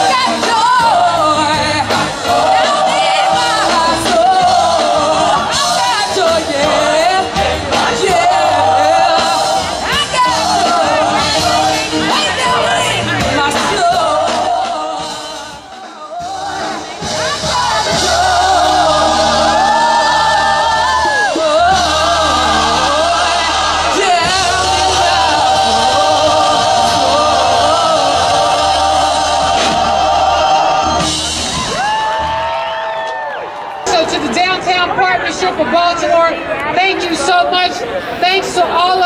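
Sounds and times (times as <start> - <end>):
large choir singing: 0.0 - 31.6.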